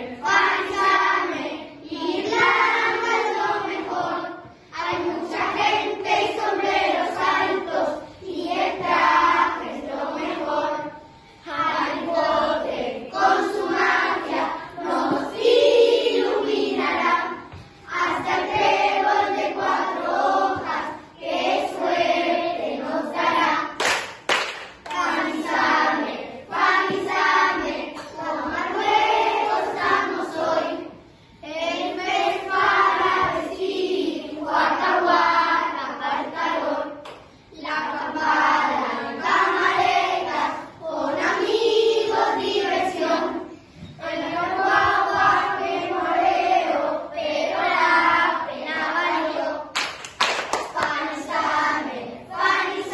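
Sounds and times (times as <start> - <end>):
children singing together: 0.0 - 24.0, 24.8 - 52.9.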